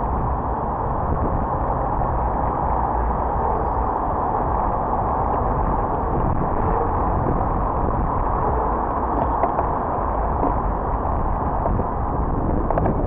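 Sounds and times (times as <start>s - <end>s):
passing cars: 0.0s - 13.0s
wind rumble on microphone: 0.0s - 13.0s.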